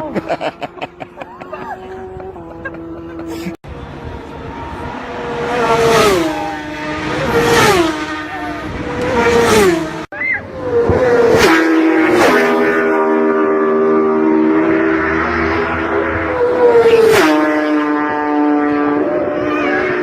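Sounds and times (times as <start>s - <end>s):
motorcycles passing at high speed: 0.0s - 20.0s
steady motorcycle engine note: 0.0s - 20.0s.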